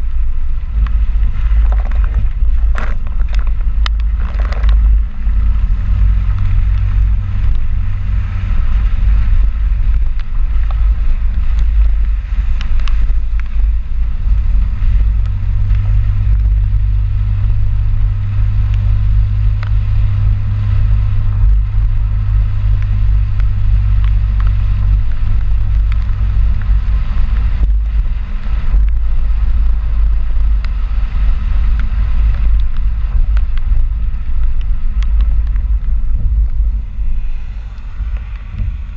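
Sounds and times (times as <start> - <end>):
pickup truck engine rumble: 0.0 - 38.9
road noise: 0.0 - 38.9.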